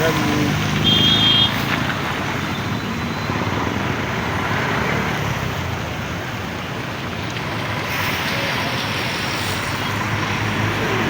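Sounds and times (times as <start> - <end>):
hiss of passing traffic: 0.0 - 11.0
vehicle engines running: 0.0 - 11.0.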